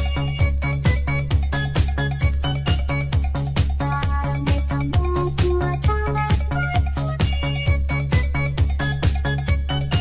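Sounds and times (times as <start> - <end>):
bass line: 0.0 - 10.0
electronic dance music: 0.0 - 10.0.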